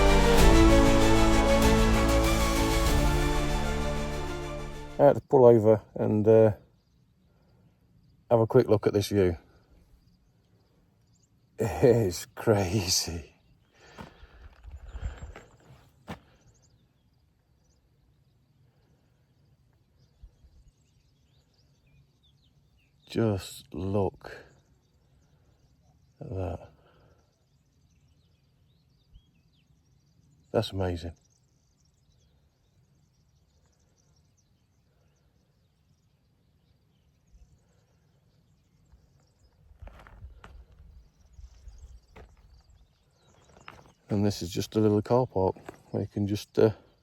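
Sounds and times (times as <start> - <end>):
faint bird chirps: 5.1 - 47.0.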